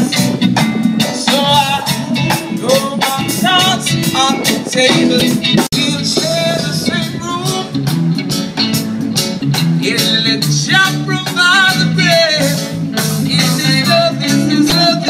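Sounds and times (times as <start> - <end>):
drums with steady beat: 0.0 - 15.0
guitar: 0.0 - 15.0
person singing: 1.0 - 7.9, 9.8 - 15.0.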